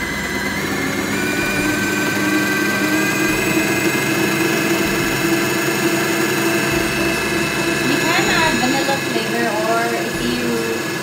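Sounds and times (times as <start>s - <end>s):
stand mixer motor whine: 0.0s - 11.0s.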